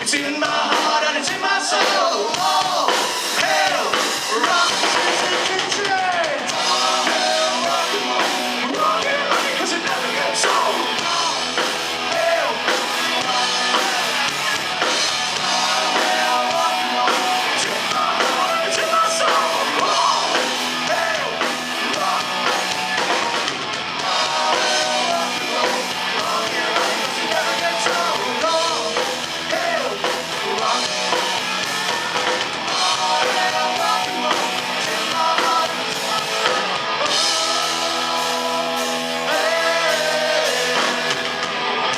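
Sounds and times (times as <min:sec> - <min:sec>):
person singing: 0:00.0 - 0:23.4, 0:24.0 - 0:31.4, 0:32.0 - 0:41.9
distorted electric guitars: 0:00.0 - 0:41.9
drum kit: 0:00.0 - 0:41.9
live rock band playing: 0:00.0 - 0:41.9.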